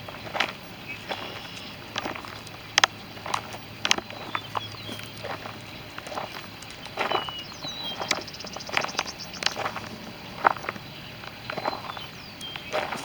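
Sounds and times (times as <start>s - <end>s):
fast run of high ticks: 0.3s - 13.0s.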